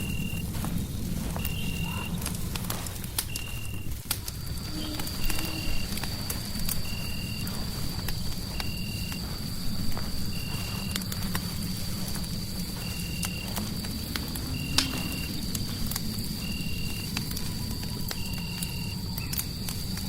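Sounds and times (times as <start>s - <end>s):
fireplace crackling and popping: 0.0s - 20.0s.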